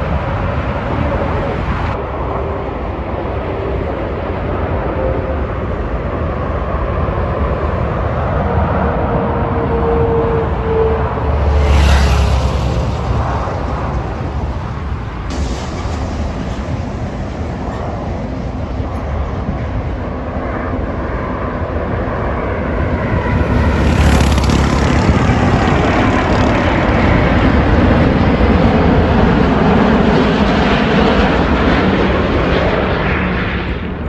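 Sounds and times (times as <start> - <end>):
jet airliner passing overhead: 0.0 - 34.0.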